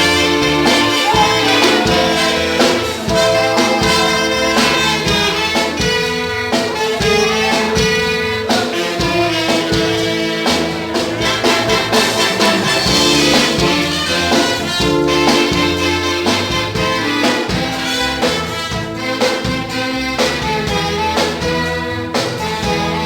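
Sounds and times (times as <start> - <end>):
drum beat: 0.0 - 21.6
band and orchestra playing: 0.0 - 23.0.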